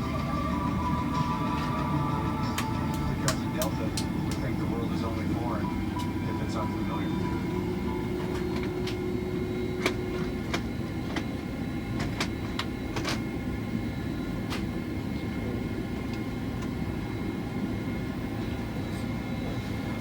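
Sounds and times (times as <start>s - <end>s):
airliner cabin hum: 0.0s - 20.0s
faint steady whines: 0.0s - 20.0s.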